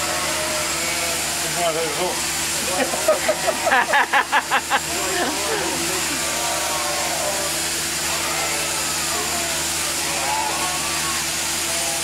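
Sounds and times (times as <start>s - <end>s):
faint wavering voices or bleats: 0.0s - 4.0s, 4.8s - 12.0s
machine hum and hiss: 0.0s - 12.0s.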